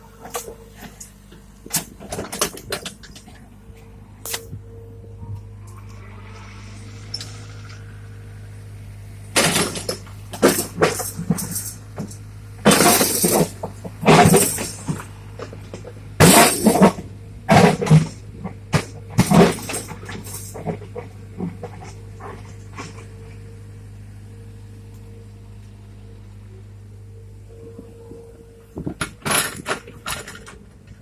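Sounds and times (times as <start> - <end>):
excavator engine humming: 0.0 - 31.0.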